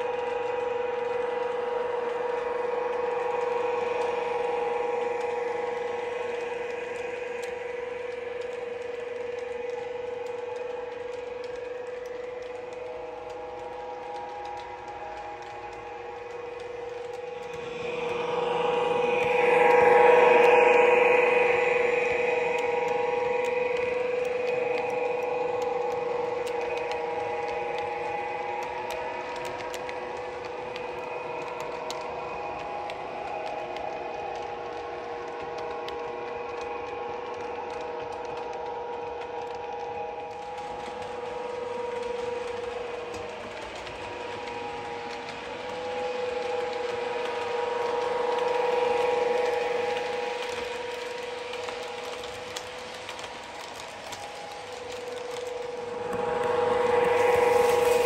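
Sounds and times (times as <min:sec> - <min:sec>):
model train whining on track: 0:00.0 - 0:58.0.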